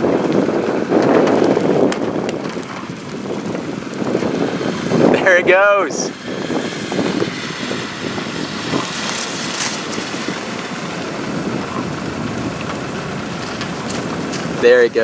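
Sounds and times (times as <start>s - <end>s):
rain: 0.0s - 5.3s, 6.1s - 15.0s
storm wind: 0.0s - 15.0s.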